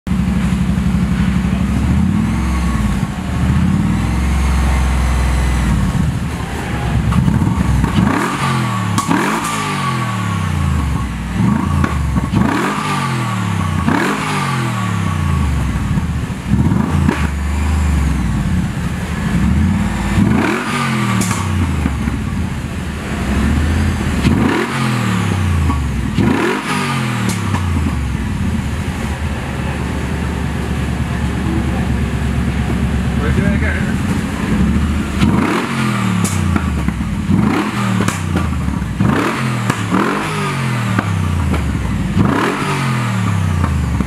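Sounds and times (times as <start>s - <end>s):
car engine idling: 0.1s - 12.8s, 14.7s - 40.2s, 40.8s - 42.4s
engine revving: 0.1s - 44.0s.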